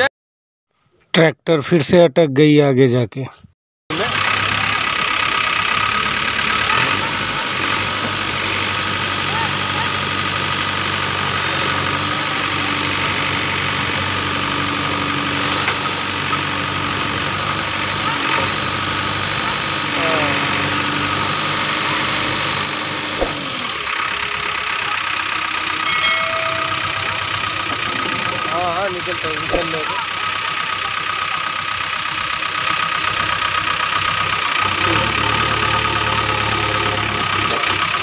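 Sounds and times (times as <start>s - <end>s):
tractor diesel engine under load: 3.9s - 38.0s.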